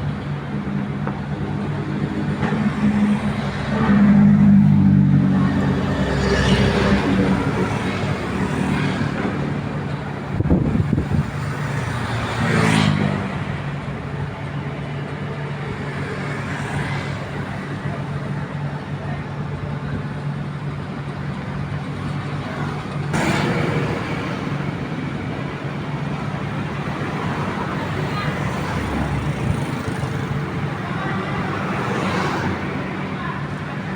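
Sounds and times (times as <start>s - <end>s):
broad rushing noise: 0.0s - 33.9s
heavy machinery diesel engine: 0.0s - 33.9s.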